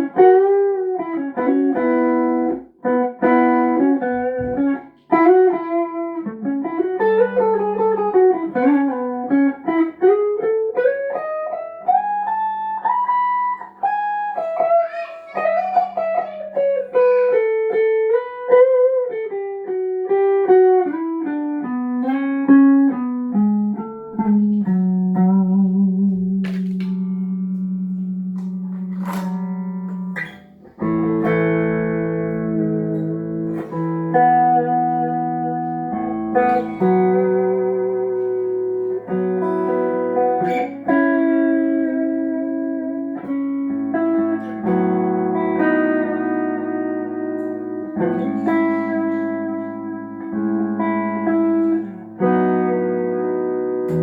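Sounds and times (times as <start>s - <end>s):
guitar chords strummed: 0.0s - 54.0s.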